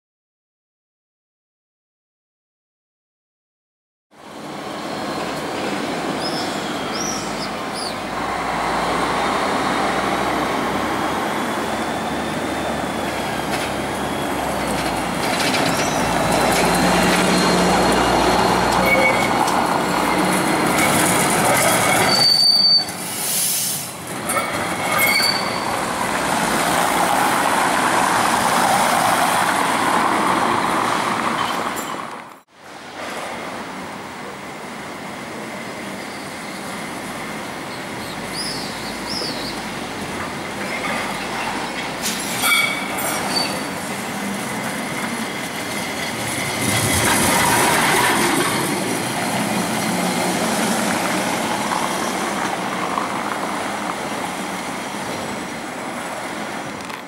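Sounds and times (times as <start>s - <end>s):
tram rolling rumble: 4.1s - 57.0s
tram wheels squealing: 4.2s - 32.2s, 35.5s - 56.8s.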